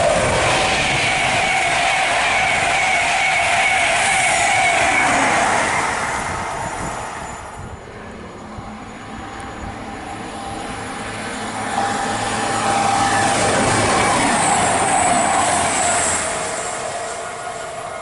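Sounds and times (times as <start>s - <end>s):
diesel train hum and whine: 0.0s - 18.0s
passenger train rushing past: 0.0s - 18.0s.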